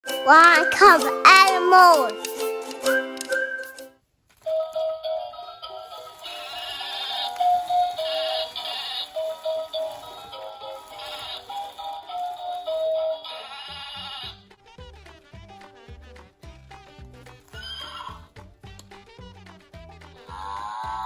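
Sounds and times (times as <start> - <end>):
electronic children's tune: 0.0 - 21.0.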